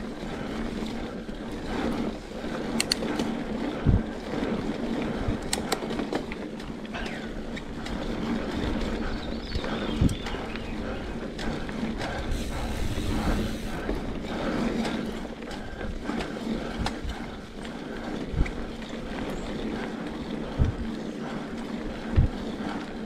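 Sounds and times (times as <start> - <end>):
bike rattling and clicking: 0.0 - 23.0.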